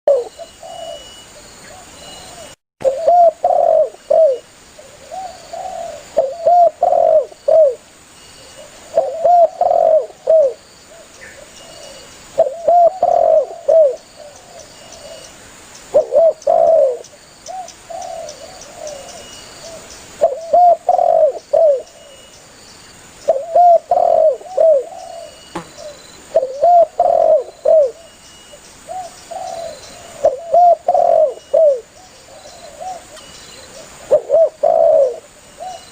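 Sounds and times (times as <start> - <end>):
dove cooing: 0.1 - 1.1, 1.7 - 7.8, 8.4 - 15.3, 15.9 - 22.2, 23.3 - 28.1, 28.9 - 35.9.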